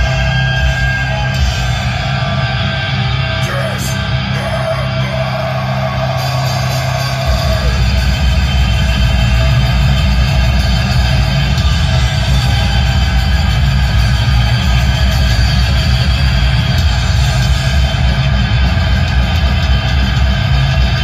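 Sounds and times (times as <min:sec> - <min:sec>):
electric guitars: 0:00.0 - 0:21.0
heavy metal vocals: 0:00.0 - 0:21.0.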